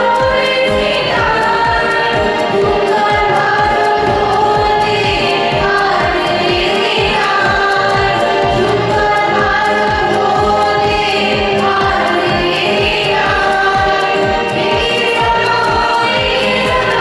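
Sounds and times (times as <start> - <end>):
quick drum beat: 0.0 - 17.0
young voices singing together: 0.0 - 17.0.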